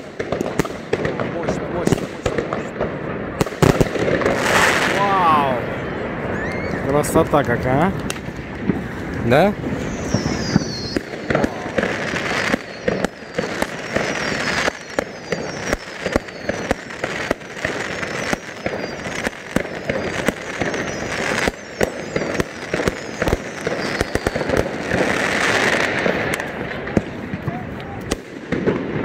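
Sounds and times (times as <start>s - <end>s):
fireworks bangs and cracks: 0.0s - 29.0s
fireworks whistles falling: 3.4s - 7.4s, 8.0s - 29.0s.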